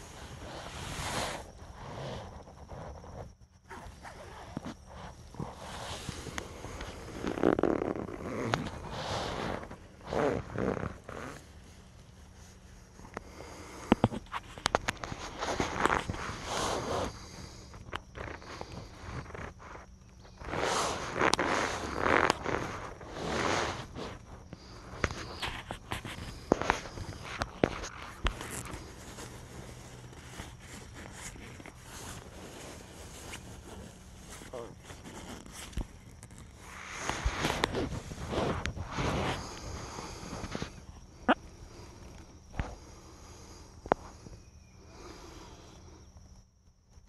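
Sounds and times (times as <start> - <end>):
sleeping bag fabric rustling: 0.0 - 45.8
small ticks: 1.5 - 16.4, 17.0 - 38.8, 39.4 - 44.8.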